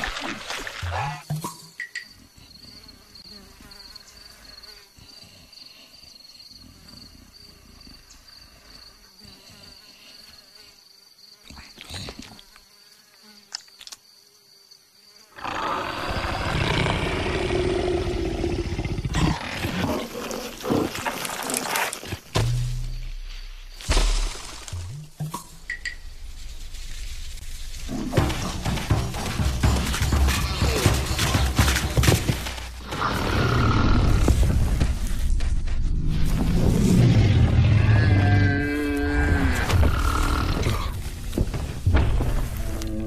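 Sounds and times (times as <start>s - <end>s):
high insect buzz: 0.5s - 35.4s, 36.0s - 43.0s.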